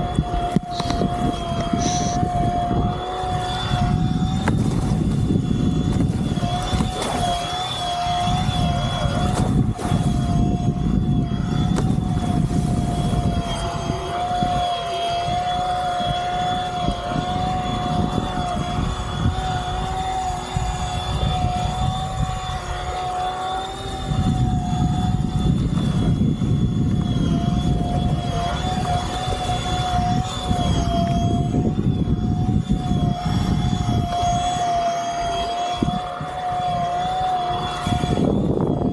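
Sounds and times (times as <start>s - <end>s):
electric motor and propeller whining: 0.0s - 38.9s
rush of wind and water: 0.0s - 38.9s.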